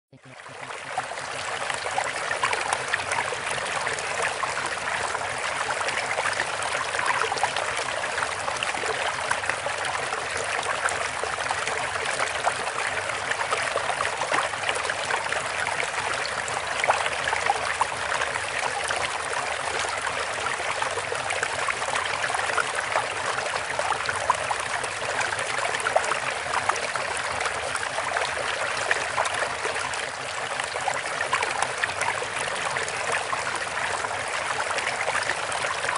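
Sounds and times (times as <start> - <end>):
babbling stream: 0.1 - 35.9.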